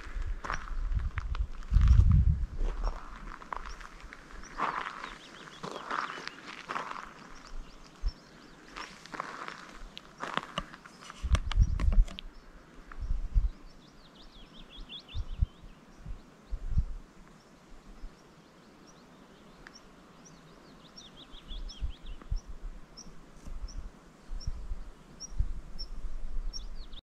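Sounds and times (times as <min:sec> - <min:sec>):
songbird chirping: 0:02.7 - 0:27.0.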